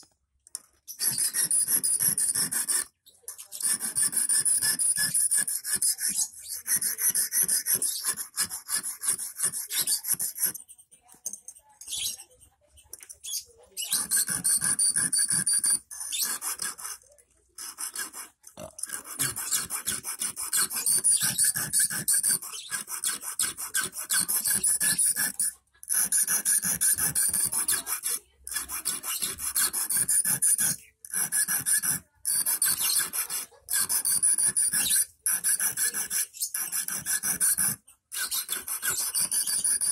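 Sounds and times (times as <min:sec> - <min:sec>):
hand file rasping on steel wire: 0:00.8 - 0:12.4, 0:13.2 - 0:39.9.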